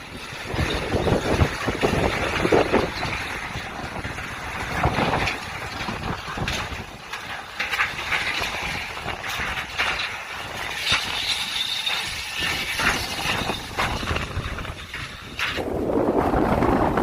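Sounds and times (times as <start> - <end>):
strong gusty wind on microphone: 0.0 - 17.0.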